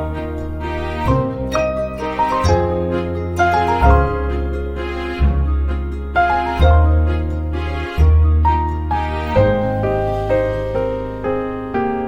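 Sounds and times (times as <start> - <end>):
soft instrumental background music: 0.0 - 12.0.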